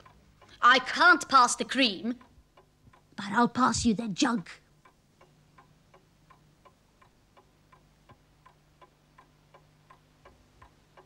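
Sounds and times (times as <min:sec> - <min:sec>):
faint clock ticking: 0:00.0 - 0:11.0.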